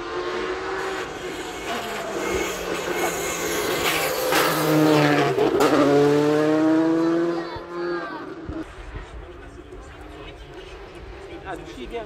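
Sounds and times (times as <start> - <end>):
rally car engine passing: 0.0 - 12.0.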